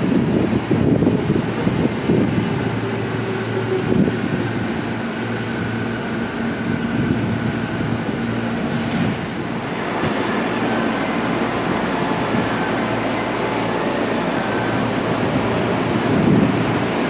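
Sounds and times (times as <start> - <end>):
electric train rumbling: 0.0 - 17.0
high train whine: 0.0 - 17.0.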